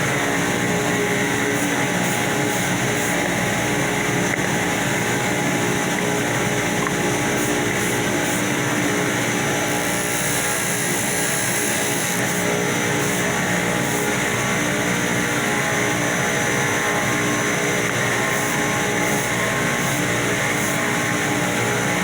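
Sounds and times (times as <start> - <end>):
power sander running: 0.0 - 22.0.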